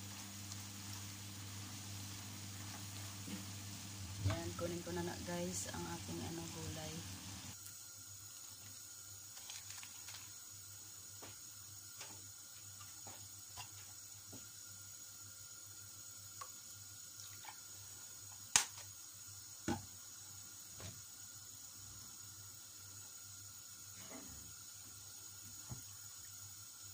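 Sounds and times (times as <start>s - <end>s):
broth heating in a pan: 0.0s - 26.9s
frying sizzle: 0.0s - 26.9s.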